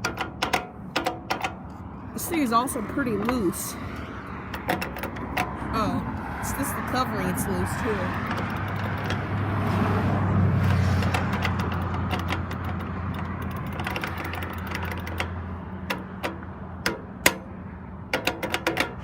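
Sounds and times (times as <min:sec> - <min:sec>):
low rumble of road traffic: 0:00.0 - 0:19.0.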